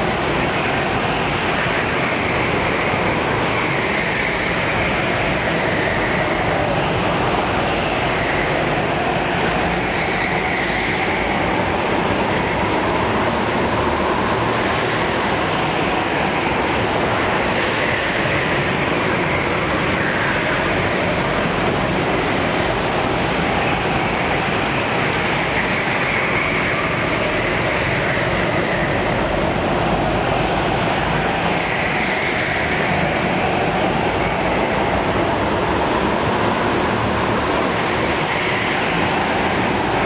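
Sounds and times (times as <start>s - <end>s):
go-kart engines racing: 0.0s - 40.0s.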